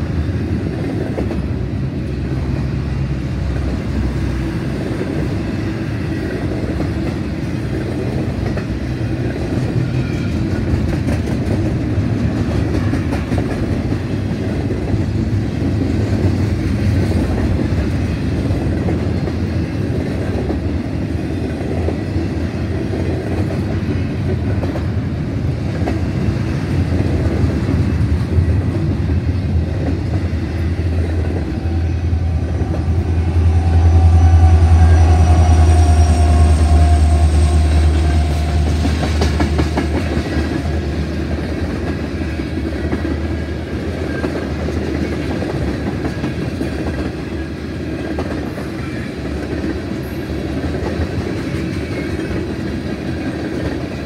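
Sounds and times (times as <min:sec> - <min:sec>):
steel wheels rumbling on rail: 0:00.0 - 0:54.0
wheels clickety-clack over joints: 0:00.3 - 0:02.7, 0:04.8 - 0:33.1, 0:38.1 - 0:54.0.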